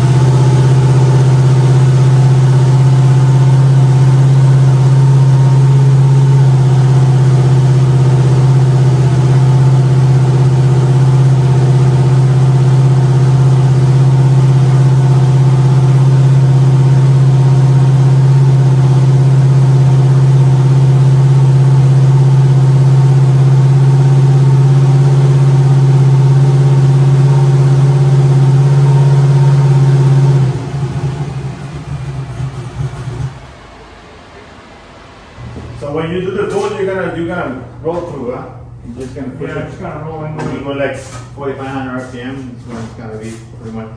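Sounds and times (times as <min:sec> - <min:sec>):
car engine running: 0:00.0 - 0:43.7.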